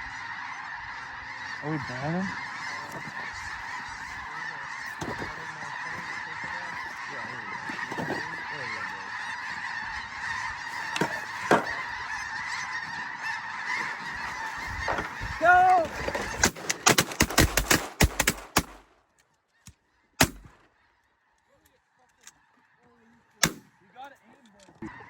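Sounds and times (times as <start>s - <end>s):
snow geese honking: 0.0s - 25.0s.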